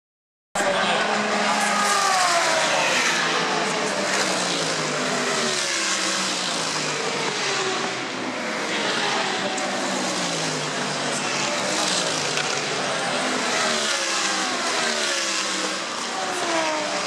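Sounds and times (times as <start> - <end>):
race car engines at speed: 0.6 - 17.0.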